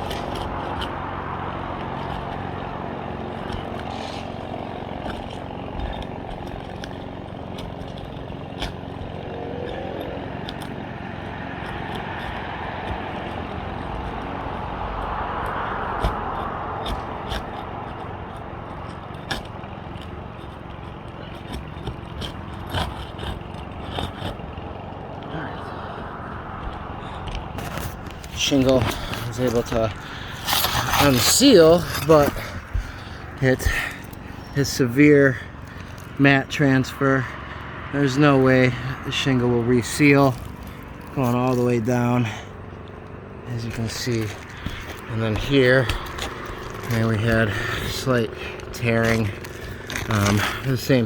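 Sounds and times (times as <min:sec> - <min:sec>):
roof shingle clicking and tapping: 0:00.0 - 0:51.0.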